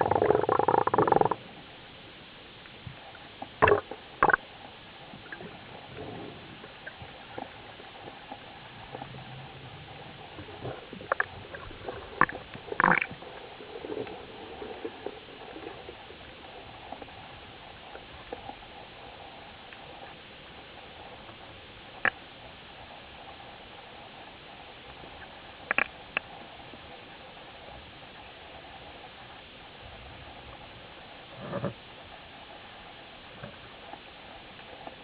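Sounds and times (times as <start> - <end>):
underwater hiss: 2.9 - 34.9.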